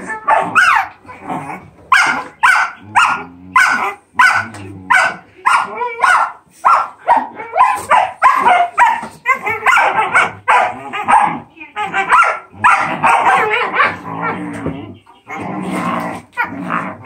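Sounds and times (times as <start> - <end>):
puppies growling: 0.0 - 6.0, 8.2 - 17.0
puppies barking: 0.0 - 17.0.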